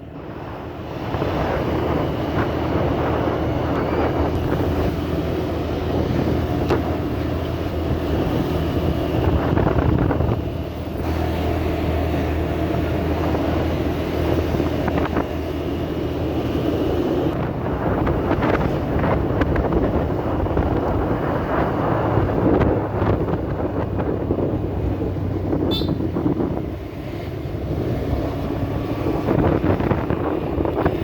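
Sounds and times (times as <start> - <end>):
wind buffeting microphone: 0.0 - 31.0
motorbike engine running: 1.2 - 31.0.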